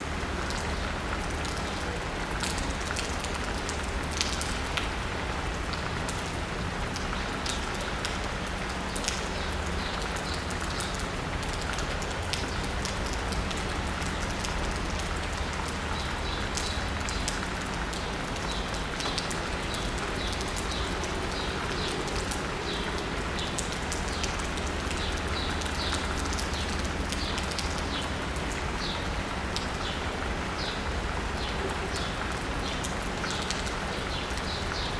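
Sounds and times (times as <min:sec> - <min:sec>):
rain pattering on asphalt: 0:00.0 - 0:34.9.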